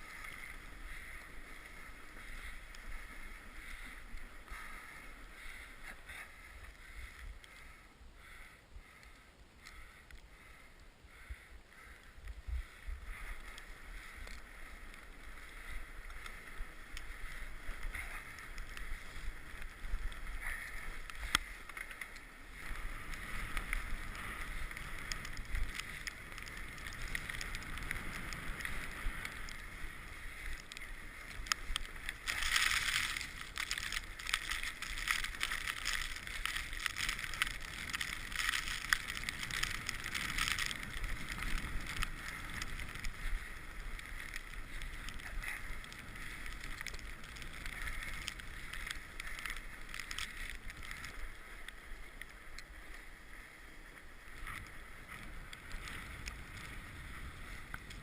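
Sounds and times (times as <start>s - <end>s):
bike tyre rolling on trail: 0.0s - 58.0s
wind rumble on microphone: 9.7s - 58.0s.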